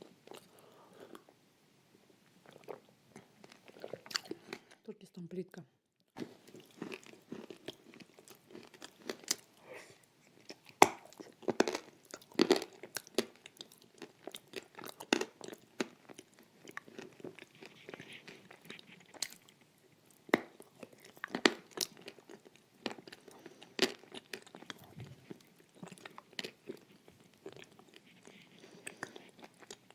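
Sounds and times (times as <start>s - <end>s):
brittle clay being chewed: 0.0s - 1.3s, 2.2s - 4.8s, 6.0s - 9.6s, 10.2s - 29.9s.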